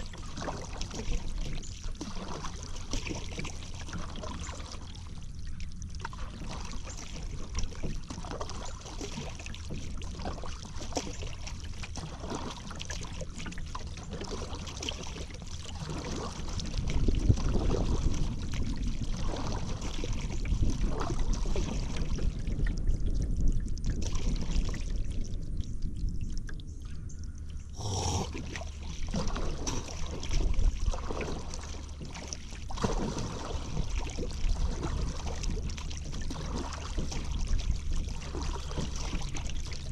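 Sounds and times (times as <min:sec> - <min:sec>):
paddle strokes through water: 0:00.0 - 0:39.9
water trickling off paddle: 0:00.0 - 0:39.9.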